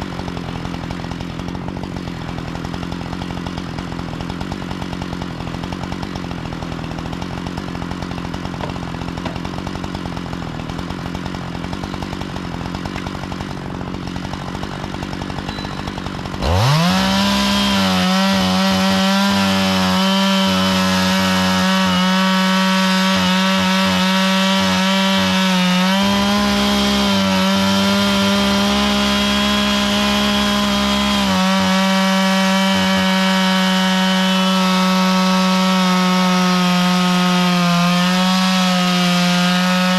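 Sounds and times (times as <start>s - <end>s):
chainsaw milling a log: 0.0s - 39.9s.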